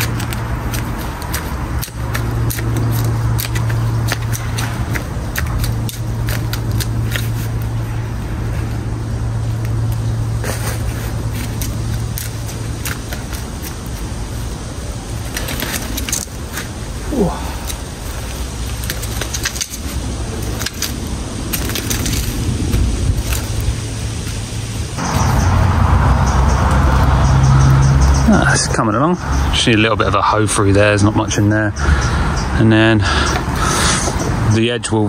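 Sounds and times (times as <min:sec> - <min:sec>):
scraping: 0:00.0 - 0:28.8
engine humming: 0:00.0 - 0:35.0.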